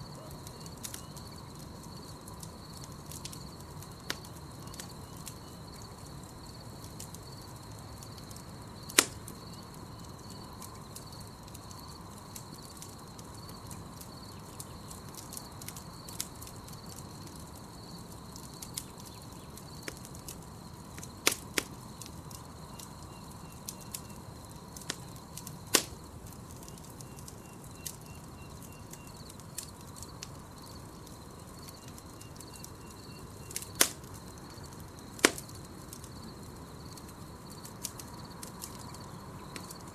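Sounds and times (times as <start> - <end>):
campfire crackling and popping: 0.0 - 39.9
night insects trilling: 0.0 - 39.9.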